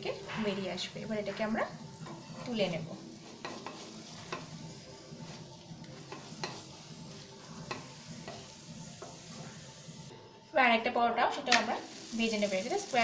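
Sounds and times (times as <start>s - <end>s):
bread frying in oil sizzle: 0.0s - 10.1s, 11.5s - 13.0s.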